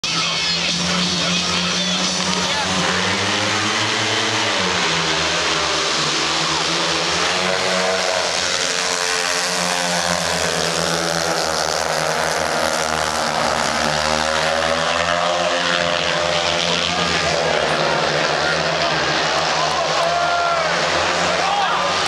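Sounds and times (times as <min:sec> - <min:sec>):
motorcycles racing: 0:00.0 - 0:22.0.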